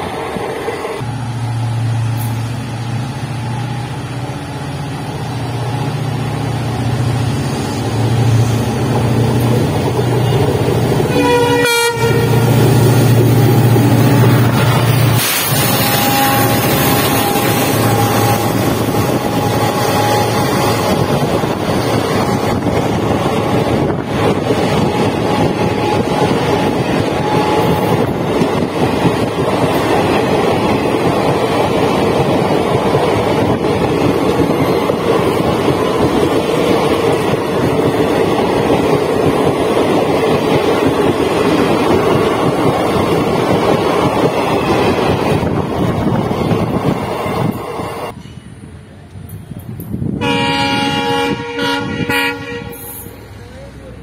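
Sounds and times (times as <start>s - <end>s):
train wheels rushing on rail: 0.0s - 54.0s
wind buffeting microphone: 7.0s - 52.2s.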